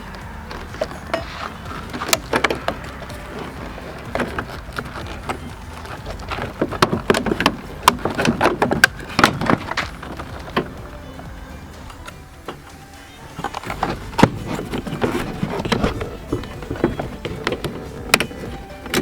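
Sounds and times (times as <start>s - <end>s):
plastic parts clicking: 0.0s - 19.0s.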